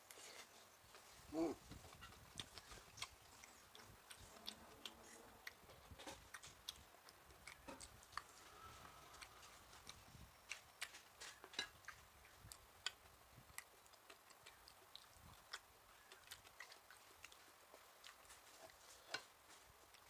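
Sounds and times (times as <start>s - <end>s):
chewing with wet mouth clicks: 1.7s - 20.0s.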